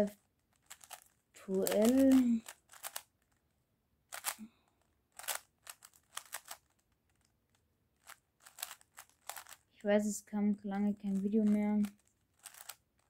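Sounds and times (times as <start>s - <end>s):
plastic cube clicking: 0.1s - 3.4s, 4.1s - 9.7s, 11.1s - 13.0s.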